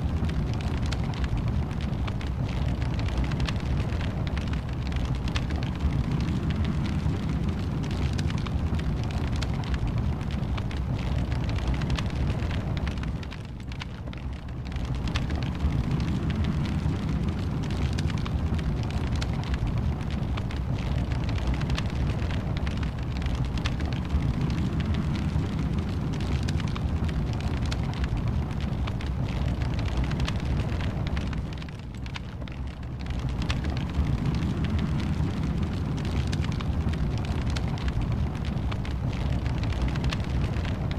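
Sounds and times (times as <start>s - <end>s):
fire crackles and pops: 0.0s - 40.9s
wood fire burning: 0.0s - 40.9s.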